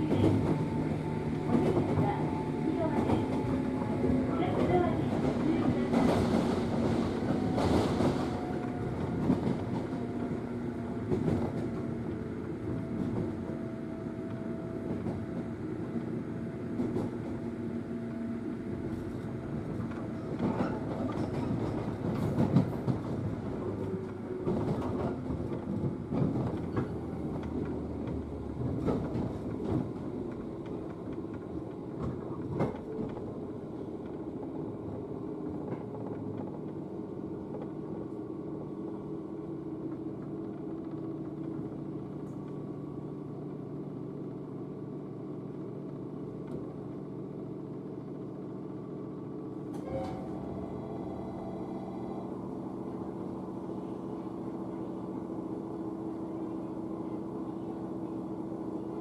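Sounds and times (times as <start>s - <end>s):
electric train running hum: 0.0s - 59.0s.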